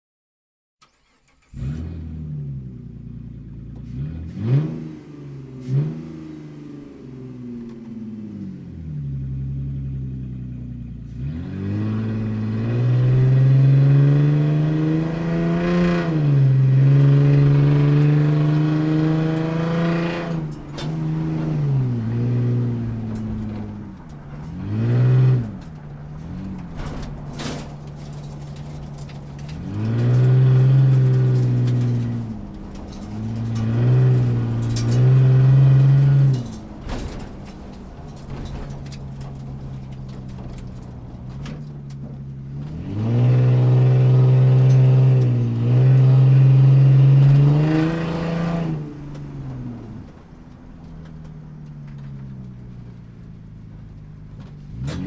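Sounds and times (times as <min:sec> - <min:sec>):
muffled car engine revving: 0:00.8 - 0:55.0.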